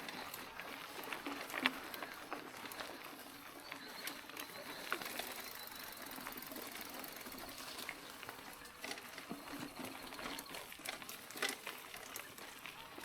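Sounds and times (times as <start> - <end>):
bike clicks and rattles: 0.0 - 13.0
tyres crunching over gravel: 0.0 - 13.0.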